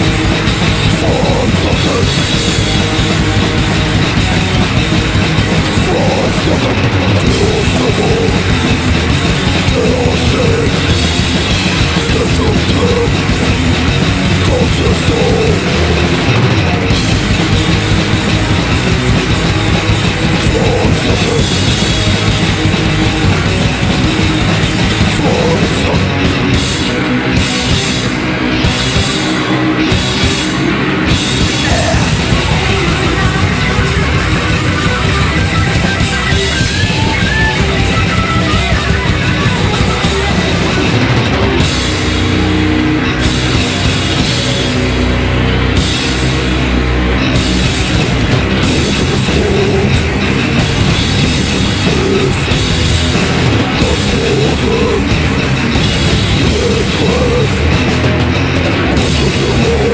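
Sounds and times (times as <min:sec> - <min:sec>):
heavy metal band playing: 0:00.0 - 0:59.9.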